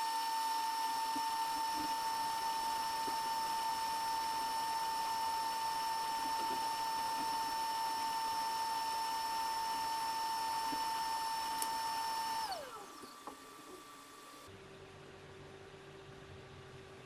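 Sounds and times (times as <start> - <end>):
hot air blower whining: 0.0 - 14.5.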